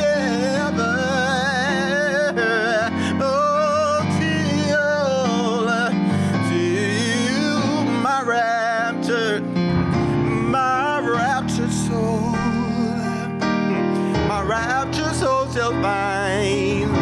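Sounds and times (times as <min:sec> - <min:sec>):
man singing wordless vocal run: 0:00.0 - 0:17.0
piano chords: 0:00.0 - 0:17.0.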